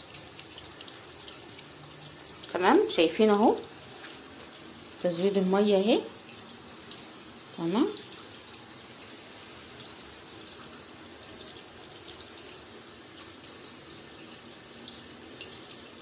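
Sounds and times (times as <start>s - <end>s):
water running from a hose: 0.0s - 16.0s.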